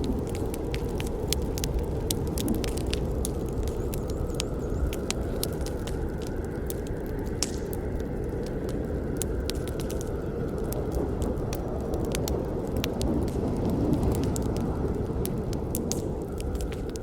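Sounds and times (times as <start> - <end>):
campfire flames rushing: 0.0 - 17.0
wood crackling and popping: 0.0 - 17.0.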